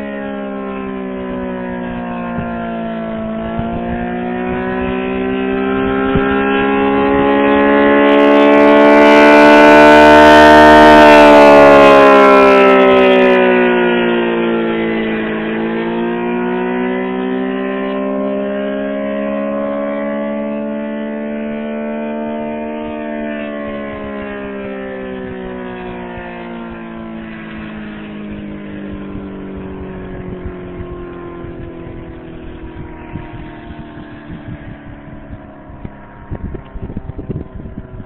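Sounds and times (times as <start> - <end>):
warning siren wailing: 0.0 - 38.0.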